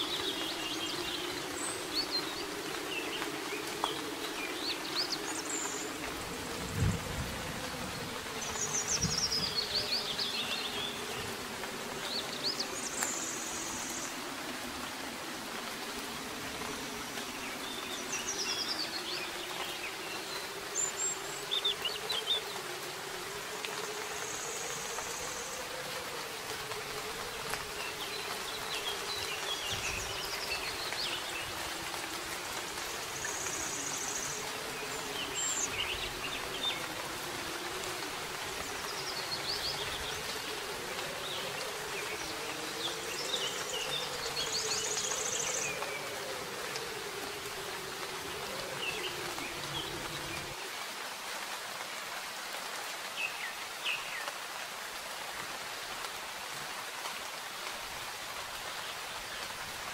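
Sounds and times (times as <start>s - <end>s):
birds chirping: 0.0s - 14.9s, 15.6s - 50.8s
soft rain falling: 0.0s - 59.9s.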